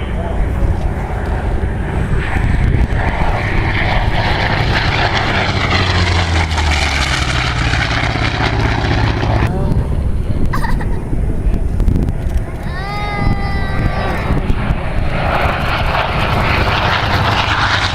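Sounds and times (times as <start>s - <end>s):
propeller plane engine flyby: 0.0s - 17.9s.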